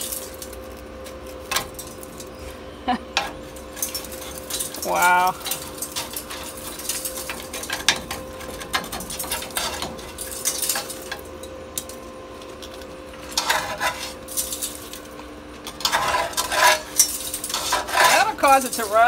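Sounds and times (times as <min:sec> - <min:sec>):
hand tools scraping rusted metal: 0:00.0 - 0:12.0, 0:12.6 - 0:19.0
steady low hum: 0:00.0 - 0:19.0.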